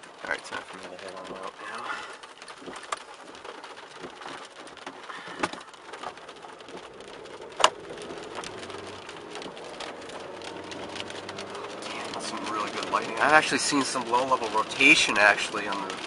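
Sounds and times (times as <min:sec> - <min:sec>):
rain tapping on car: 0:00.0 - 0:16.0.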